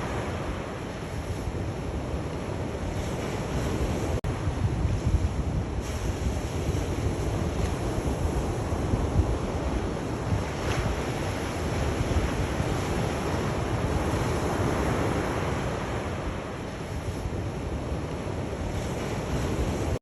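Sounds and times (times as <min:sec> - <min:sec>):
low wind rumble: 0:00.0 - 0:20.0
sea waves breaking on shore: 0:00.0 - 0:20.0.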